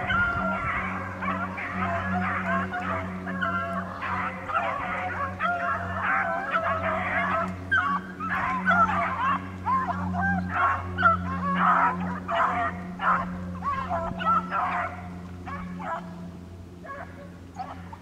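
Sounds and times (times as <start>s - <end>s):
dogs baying and yelping: 0.0s - 18.0s
steady low hum: 0.0s - 18.0s.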